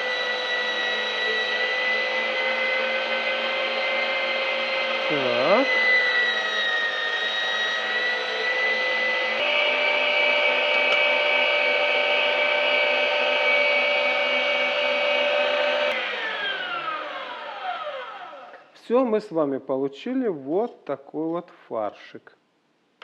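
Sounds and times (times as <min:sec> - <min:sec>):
electric meat grinder motor: 0:00.0 - 0:18.6.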